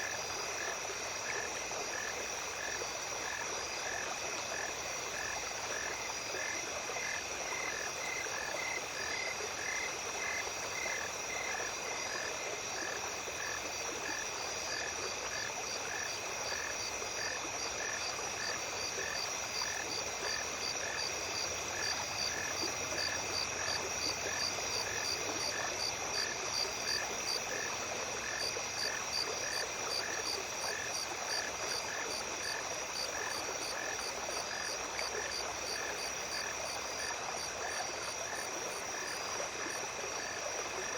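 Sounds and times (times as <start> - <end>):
insects trilling: 0.0 - 40.9
stream running: 0.0 - 40.9.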